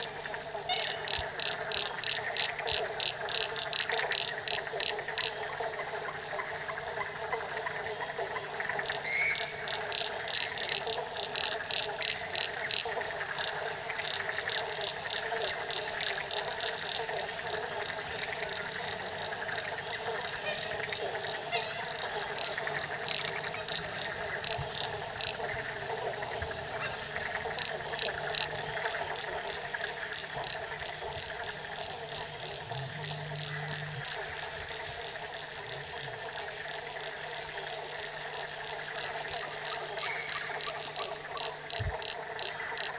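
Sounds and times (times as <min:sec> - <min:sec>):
frogs calling: 0:00.0 - 0:42.9
high repeated frog notes: 0:00.0 - 0:42.9.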